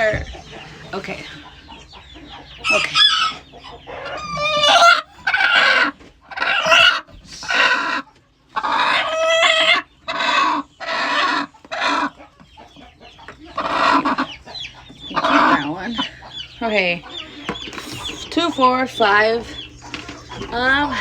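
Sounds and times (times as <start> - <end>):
hen clucking and squawking: 0.0 - 21.0.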